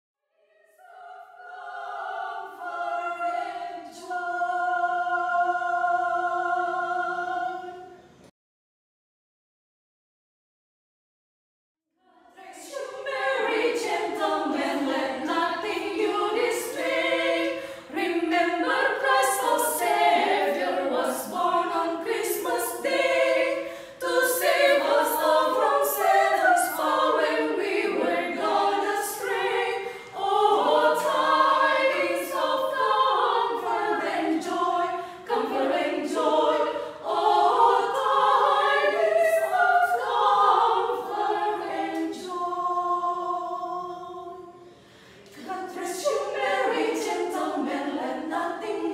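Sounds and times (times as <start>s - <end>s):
women singing a cappella: 0.4s - 8.0s, 12.0s - 48.9s.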